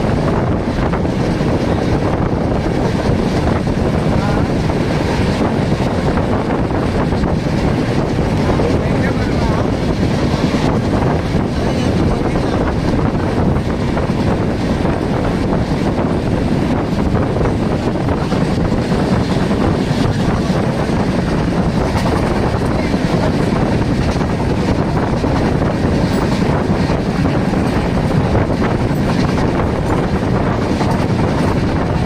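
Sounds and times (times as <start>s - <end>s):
train wheels rumbling on track: 0.0s - 32.0s
wind buffeting microphone: 0.0s - 32.0s.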